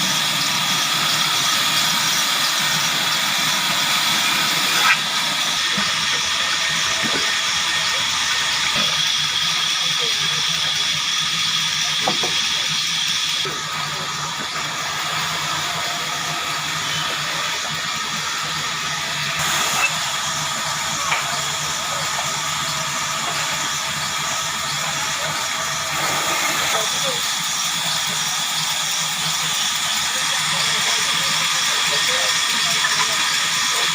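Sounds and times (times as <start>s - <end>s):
sawmill machinery running: 0.0s - 33.9s.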